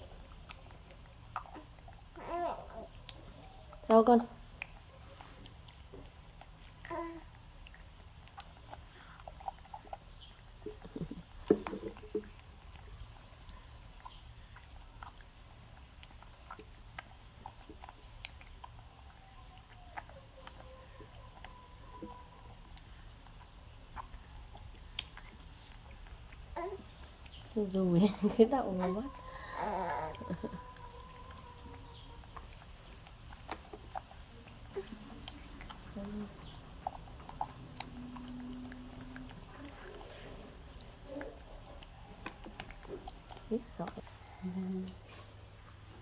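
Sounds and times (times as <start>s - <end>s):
low steady hum: 0.0s - 46.0s
monkey eating clicks and smacks: 0.0s - 46.0s.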